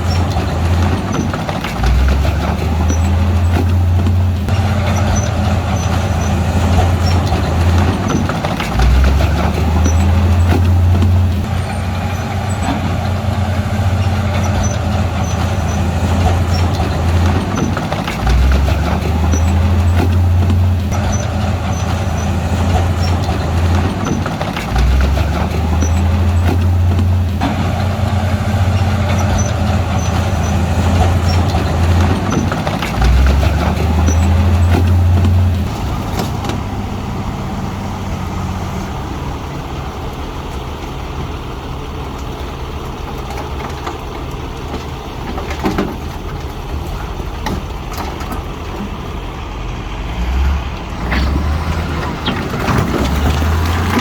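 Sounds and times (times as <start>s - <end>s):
diesel engine straining under load: 0.0s - 54.0s.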